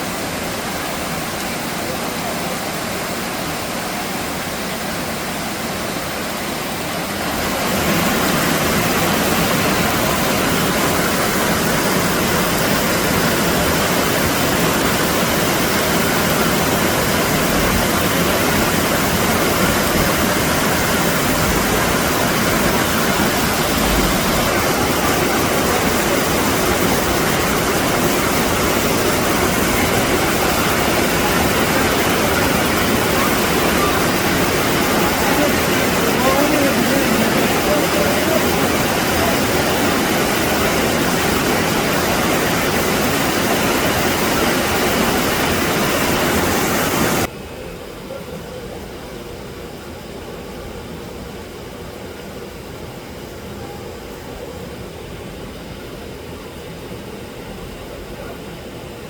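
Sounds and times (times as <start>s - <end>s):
running water rushing: 0.0s - 47.3s.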